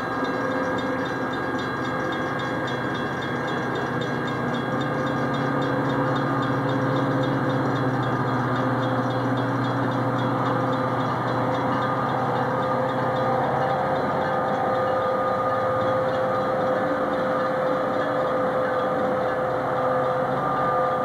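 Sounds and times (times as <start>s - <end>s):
diesel train engine hum: 0.0s - 21.0s.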